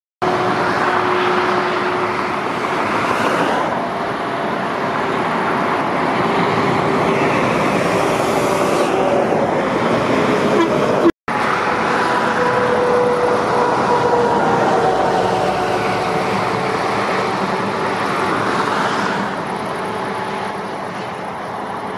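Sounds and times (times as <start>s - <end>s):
heavy lorries passing at speed: 0.2s - 21.9s.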